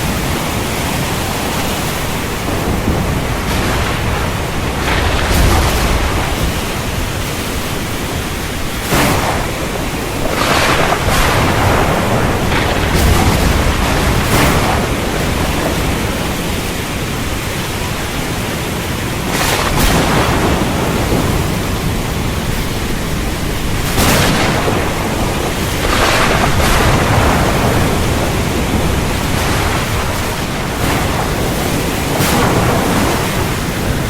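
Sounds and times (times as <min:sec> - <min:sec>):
heavy rain: 0:00.0 - 0:34.0
low thunder rumble: 0:00.0 - 0:34.0.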